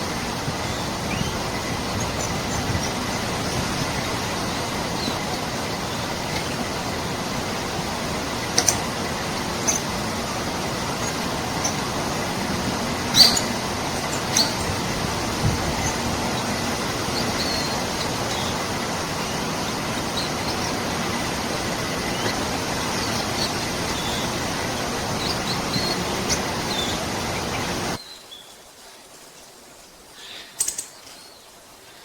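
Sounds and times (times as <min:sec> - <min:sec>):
wild birds chirping: 0:00.0 - 0:32.0.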